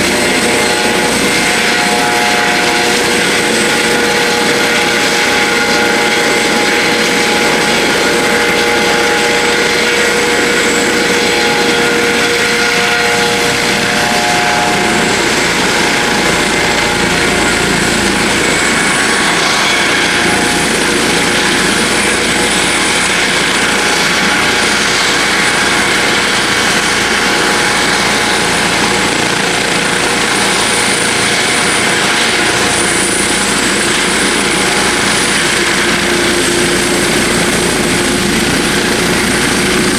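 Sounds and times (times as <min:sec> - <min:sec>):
helicopter rotor and engine: 0:00.0 - 0:39.9
thin high whine: 0:00.0 - 0:39.9.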